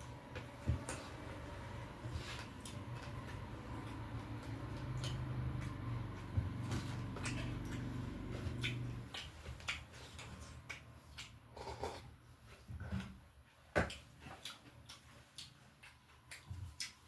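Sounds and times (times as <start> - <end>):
chewing with crunches: 0.0 - 17.0.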